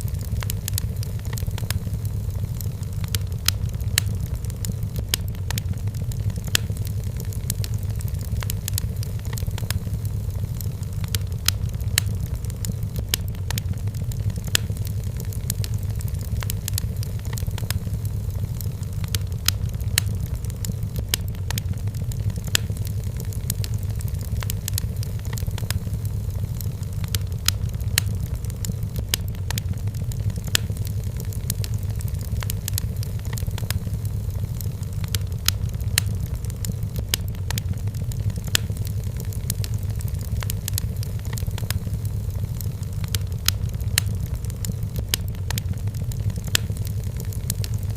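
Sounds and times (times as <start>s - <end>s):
low fire rumble: 0.0s - 47.9s
wood fire crackling and popping: 0.0s - 47.9s.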